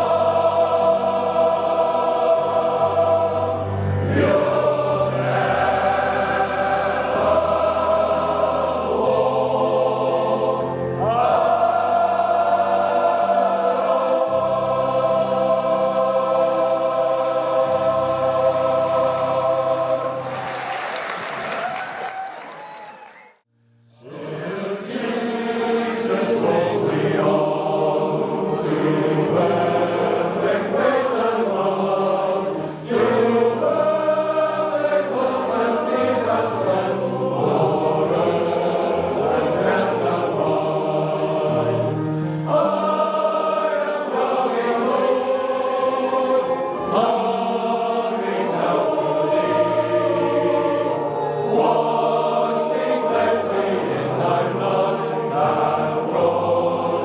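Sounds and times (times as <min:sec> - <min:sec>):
male choir singing a cappella: 0:00.0 - 0:20.5, 0:23.9 - 0:57.0.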